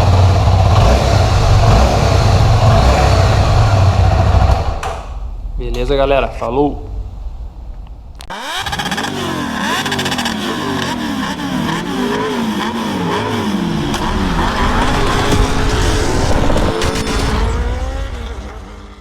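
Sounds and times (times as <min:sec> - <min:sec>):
motorcycle engine revving: 0:00.0 - 0:05.2, 0:08.2 - 0:19.0.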